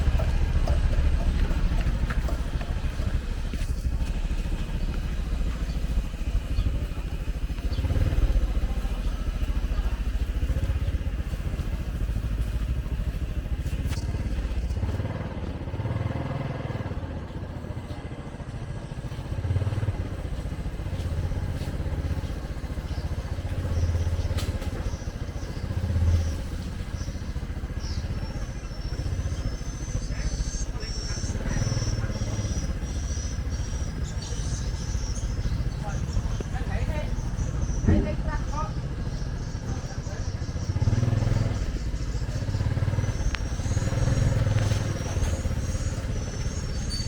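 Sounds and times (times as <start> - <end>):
motorcycle engines: 0.0 - 47.0
street traffic passing: 0.0 - 47.0.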